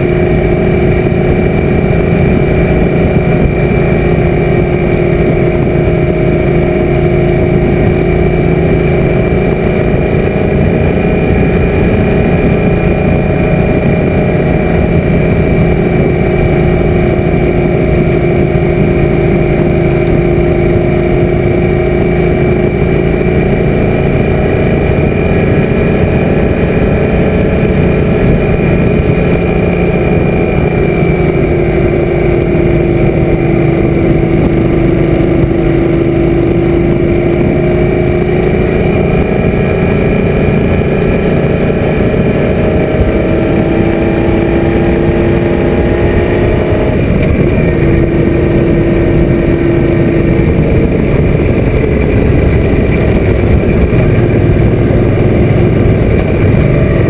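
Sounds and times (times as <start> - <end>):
motorcycle engine running: 0.0 - 57.0
wind rushing over camera: 0.0 - 57.0.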